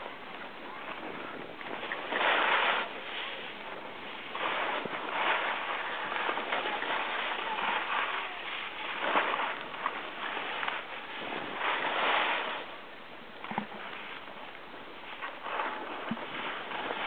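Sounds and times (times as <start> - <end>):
skis scraping over snow: 0.0 - 12.8, 13.6 - 17.0.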